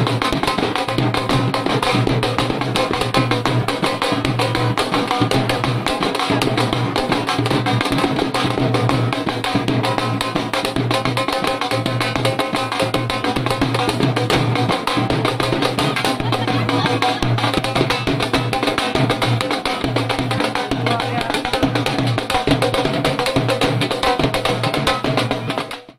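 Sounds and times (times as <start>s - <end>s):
drum band playing fast drumming: 0.0s - 25.9s.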